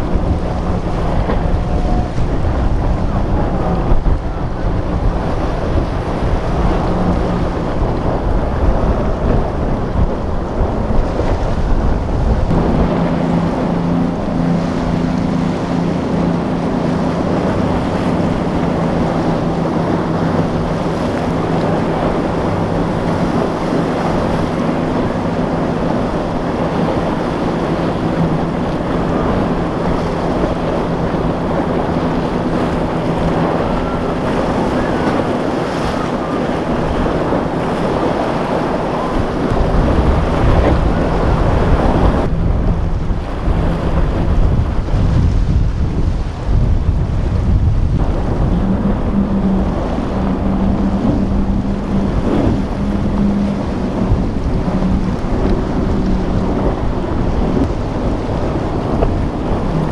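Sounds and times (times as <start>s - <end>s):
boat engine drone: 0.0s - 59.9s
waves breaking: 0.0s - 59.9s
wind buffeting microphone: 0.0s - 59.9s.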